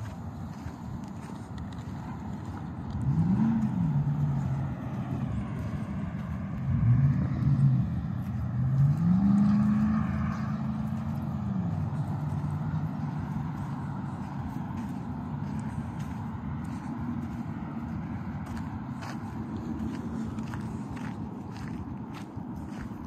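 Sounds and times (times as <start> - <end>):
vehicle engine revving: 0.7 - 23.0.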